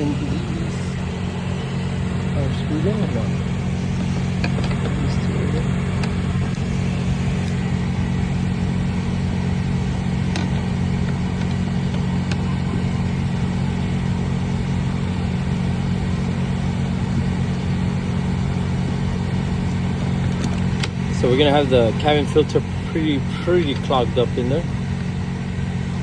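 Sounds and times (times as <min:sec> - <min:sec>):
blower fan humming: 0:00.0 - 0:26.0.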